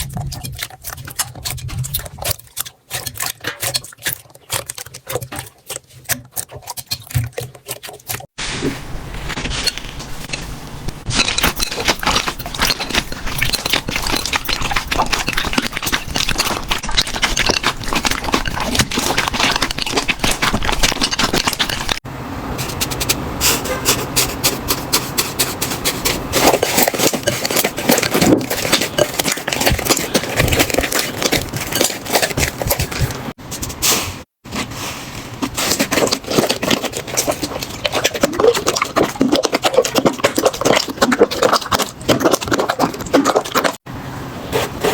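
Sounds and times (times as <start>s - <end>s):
slime crackling and squelching: 0.0s - 22.0s, 24.3s - 43.8s.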